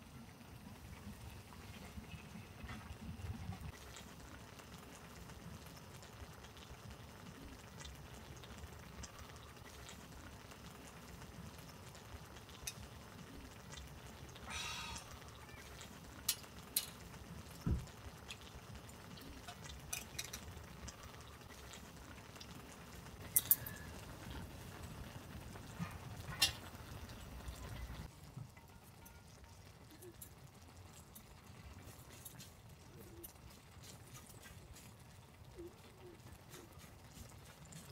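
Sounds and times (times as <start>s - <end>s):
stew bubbling in a pan: 0.0s - 37.9s.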